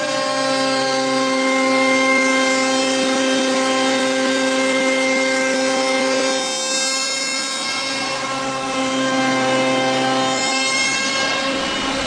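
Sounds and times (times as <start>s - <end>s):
router spindle whine cutting wood: 0.0s - 12.0s.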